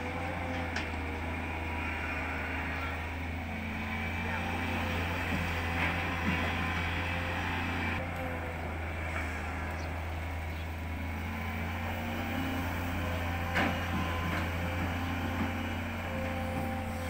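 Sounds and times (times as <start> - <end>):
excavator diesel drone: 0.0 - 17.0
hydraulic whine: 0.0 - 17.0.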